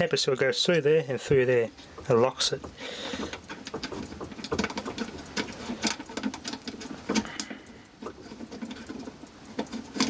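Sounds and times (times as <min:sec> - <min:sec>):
fingers clicking and scraping fastener: 0:01.3 - 0:10.0.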